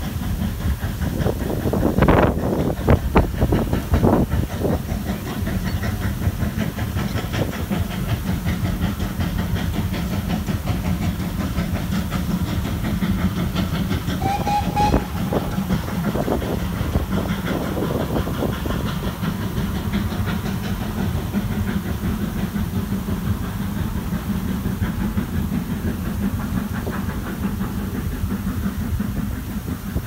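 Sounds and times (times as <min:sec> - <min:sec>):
steam exhaust and hiss: 0:00.0 - 0:30.0
train wheels clickety-clack: 0:00.0 - 0:30.0.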